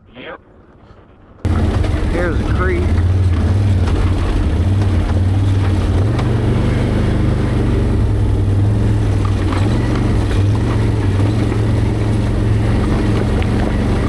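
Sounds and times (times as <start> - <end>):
atv engine running: 1.5 - 14.0.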